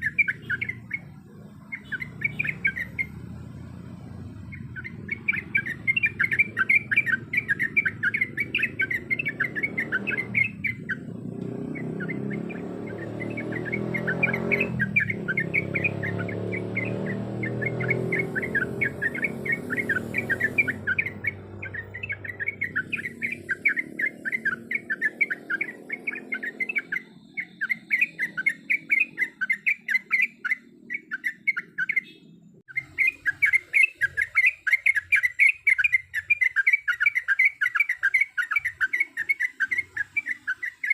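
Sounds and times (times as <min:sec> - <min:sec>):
bulbul chattering song: 0:00.0 - 0:40.9.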